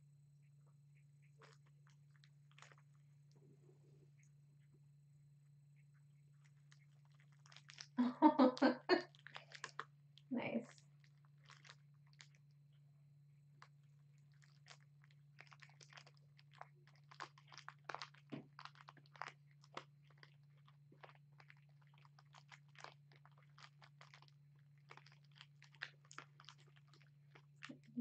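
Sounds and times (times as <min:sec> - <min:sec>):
steady low hum: 0:00.0 - 0:25.0
kitten chewing crinkly ball toy: 0:01.3 - 0:04.0, 0:06.2 - 0:08.0, 0:08.9 - 0:28.0.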